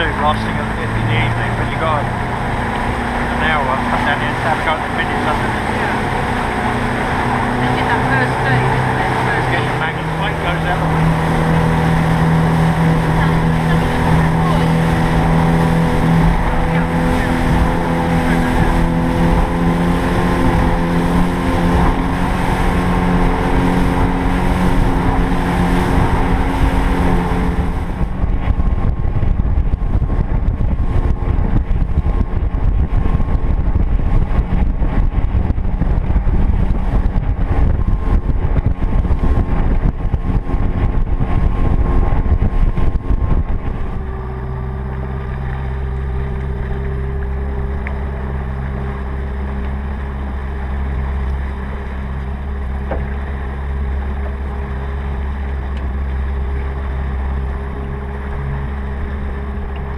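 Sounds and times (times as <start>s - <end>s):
outboard motor running: 0.0s - 59.9s
water rushing past hull: 0.0s - 59.9s
wind on microphone: 0.0s - 59.9s.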